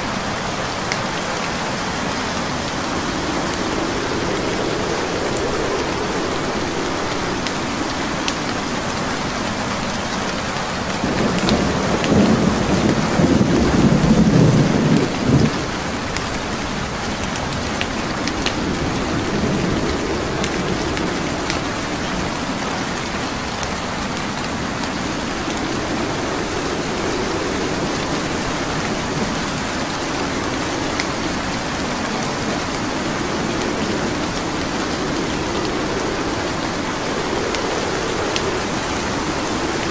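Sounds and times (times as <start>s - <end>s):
wood fire crackling: 0.0s - 13.5s, 14.7s - 39.9s
steady rain: 0.0s - 39.9s
thunder rolling: 1.1s - 9.7s, 11.0s - 39.9s.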